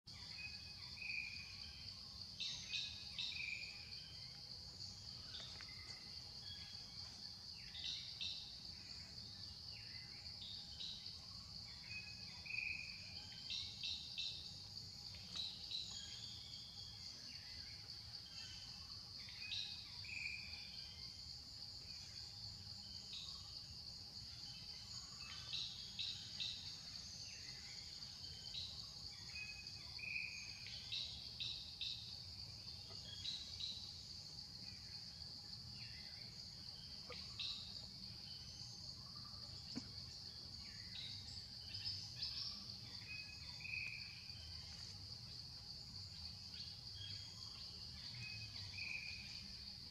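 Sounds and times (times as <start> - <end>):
insect chorus: 0.0 - 49.9.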